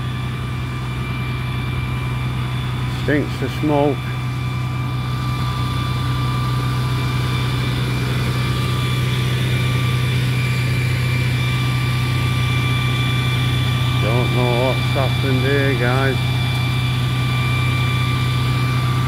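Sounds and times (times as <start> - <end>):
diesel engine idling: 0.0 - 19.0
faint steady whine: 0.0 - 19.0.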